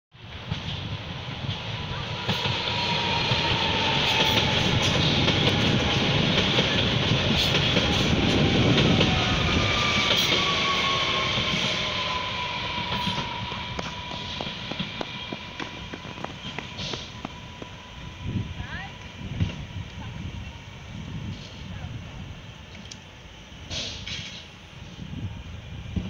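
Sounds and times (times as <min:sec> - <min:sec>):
electric train rumbling past: 0:00.2 - 0:26.0.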